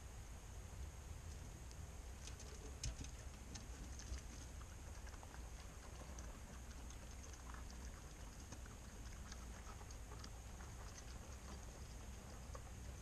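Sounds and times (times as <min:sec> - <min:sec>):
low steady rumble: 0:00.0 - 0:13.0
raccoon chewing birdseed: 0:01.3 - 0:13.0.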